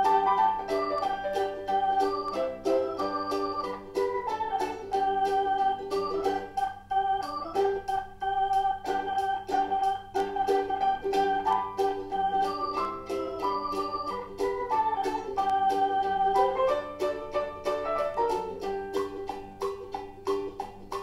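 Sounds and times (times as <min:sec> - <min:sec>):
electronic keyboard melody: 0:00.0 - 0:19.4
steady light beat: 0:00.0 - 0:21.0.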